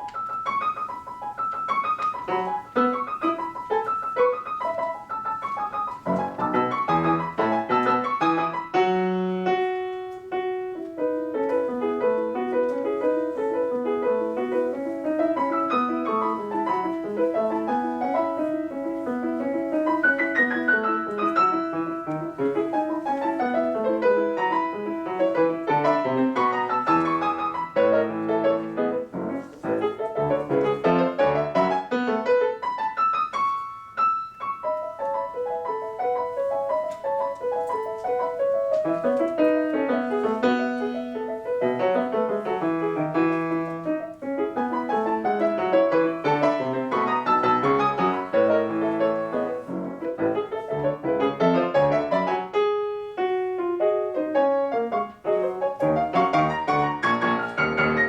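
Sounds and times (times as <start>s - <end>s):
solo piano classical piece: 0.0s - 58.0s.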